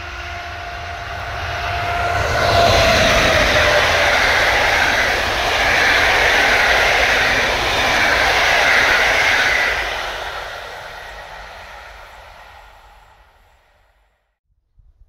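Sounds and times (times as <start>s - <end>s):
train wheels rushing on rail: 0.0s - 14.1s.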